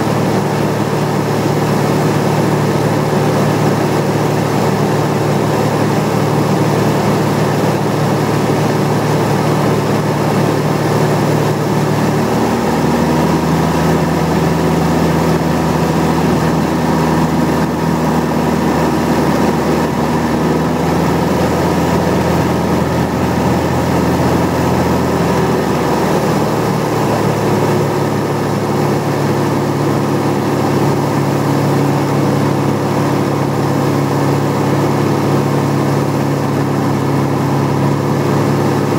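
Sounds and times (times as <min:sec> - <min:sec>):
piston aircraft engine droning: 0:00.0 - 0:38.9.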